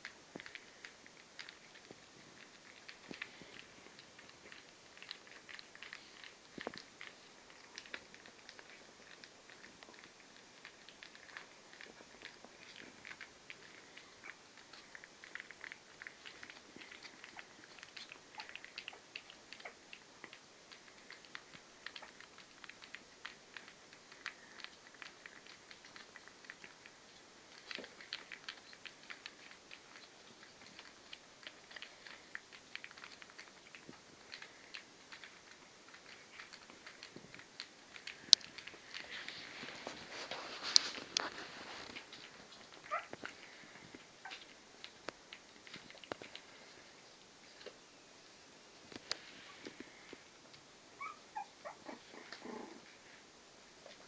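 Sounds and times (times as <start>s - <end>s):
paws pattering on rug and newspaper: 0.0s - 47.8s
puppies licking and smacking: 0.0s - 54.0s.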